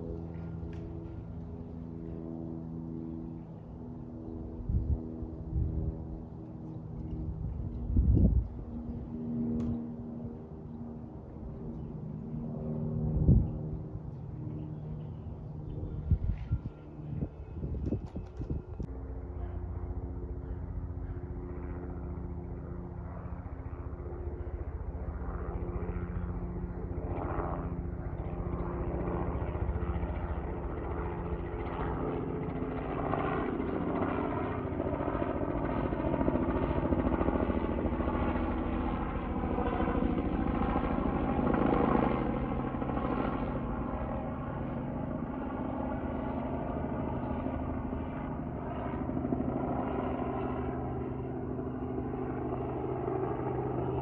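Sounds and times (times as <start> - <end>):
aircraft engines passing: 0.0 - 54.0.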